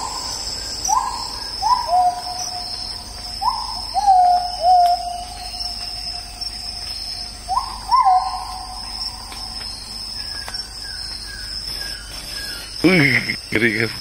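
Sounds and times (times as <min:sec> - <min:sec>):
bird whistling calls: 0:00.0 - 0:05.9, 0:06.9 - 0:12.8
insects droning: 0:00.0 - 0:14.0.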